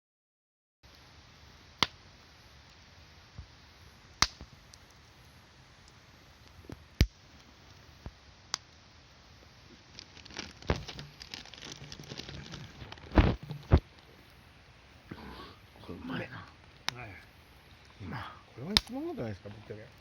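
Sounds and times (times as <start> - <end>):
campfire crackling and popping: 0.9 - 20.0.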